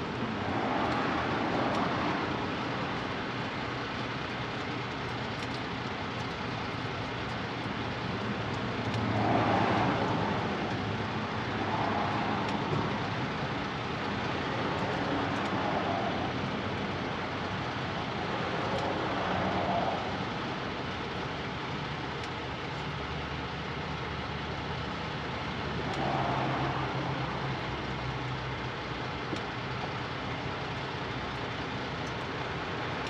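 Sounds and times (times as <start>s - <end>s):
vehicle engine hum: 0.0s - 33.0s.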